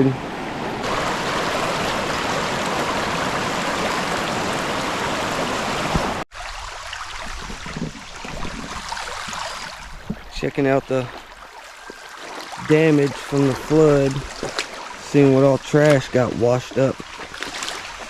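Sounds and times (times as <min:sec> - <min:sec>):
creek rushing: 0:00.0 - 0:18.0
faint water splashes: 0:00.0 - 0:18.0
quieter flowing water: 0:00.0 - 0:18.0.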